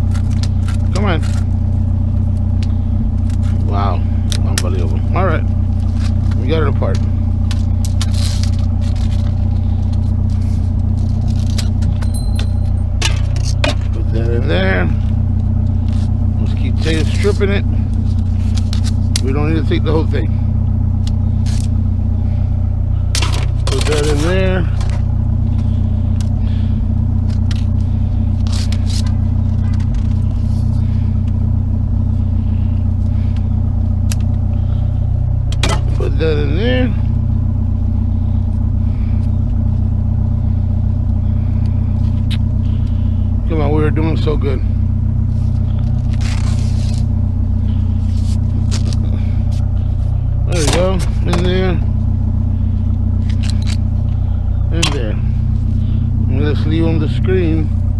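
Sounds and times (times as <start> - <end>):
vehicle engine idling: 0.0 - 57.9.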